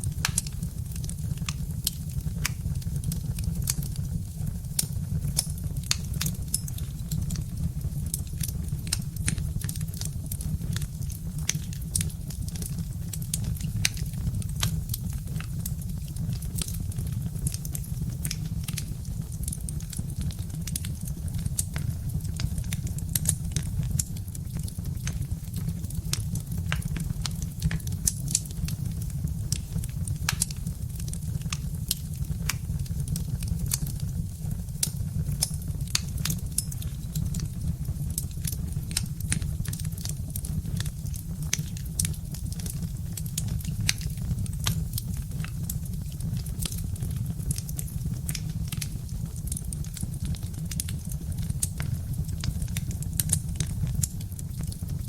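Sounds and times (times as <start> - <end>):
fire popping and snapping: 0.0 - 55.0
wood fire crackling: 0.0 - 55.0.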